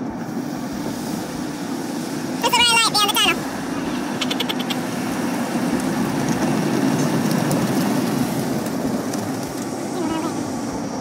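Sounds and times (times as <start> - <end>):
car wash water spray: 0.0 - 11.0.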